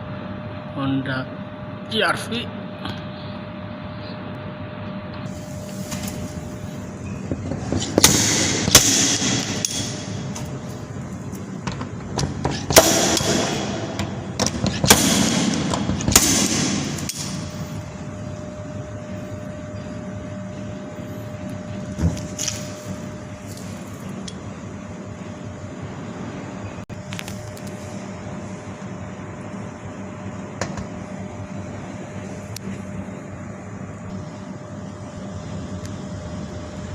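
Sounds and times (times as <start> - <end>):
background hum: 0.0 - 36.9.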